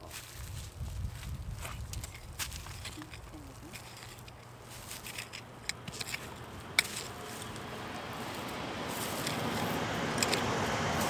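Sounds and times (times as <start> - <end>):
hand hoe scraping dry soil: 0.0 - 7.6, 8.9 - 10.5.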